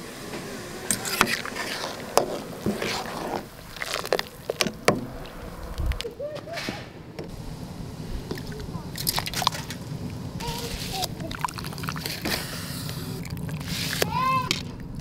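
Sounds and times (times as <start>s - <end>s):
liquid sloshing: 0.3s - 6.1s, 8.2s - 15.0s.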